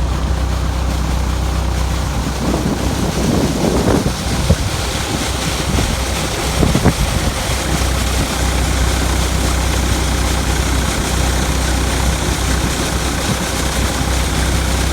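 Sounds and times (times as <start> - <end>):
tractor engine idling: 0.0 - 14.9.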